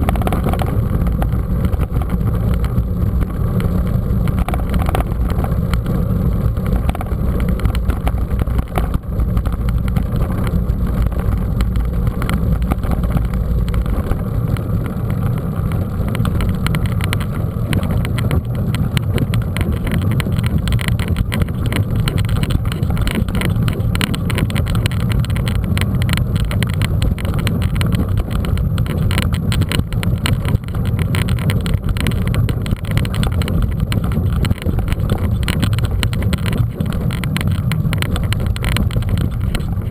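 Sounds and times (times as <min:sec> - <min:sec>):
bike rattling over rough track: 0:00.0 - 0:39.9
wind buffeting microphone: 0:00.0 - 0:39.9.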